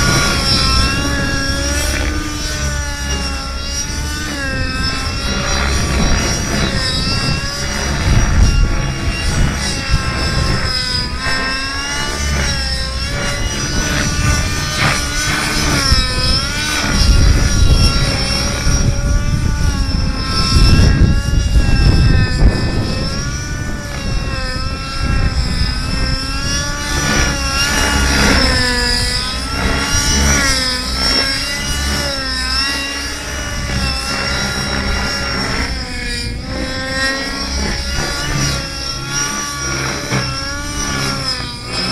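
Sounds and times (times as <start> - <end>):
model helicopter engine and rotor: 0.0 - 41.9.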